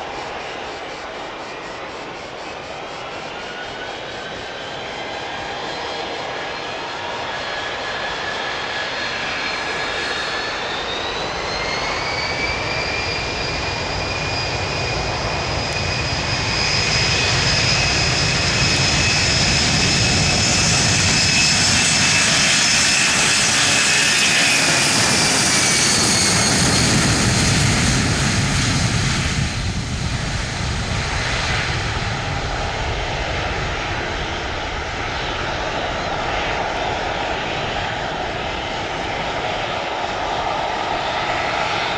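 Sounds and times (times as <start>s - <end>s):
jet engines taking off: 0.0s - 41.9s.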